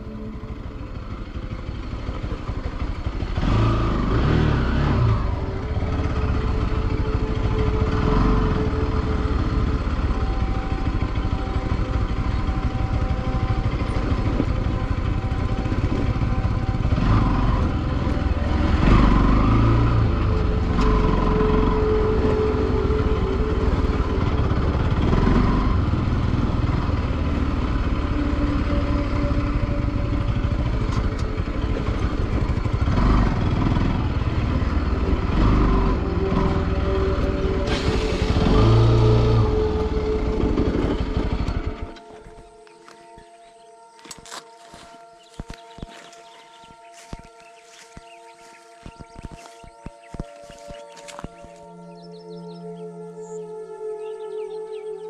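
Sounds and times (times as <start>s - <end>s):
motorcycle engine revving: 0.0s - 53.5s.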